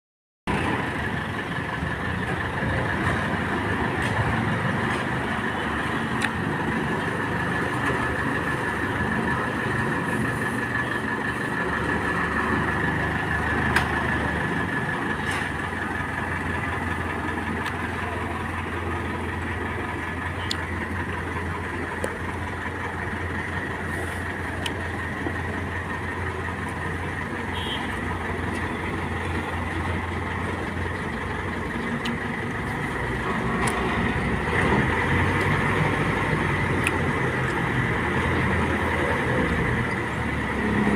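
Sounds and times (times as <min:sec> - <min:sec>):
harvester engine drone: 0:00.5 - 0:40.9.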